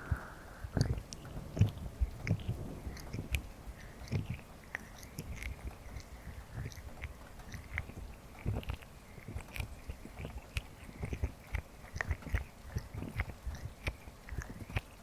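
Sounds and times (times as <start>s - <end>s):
slime squelching: 0.0s - 15.0s.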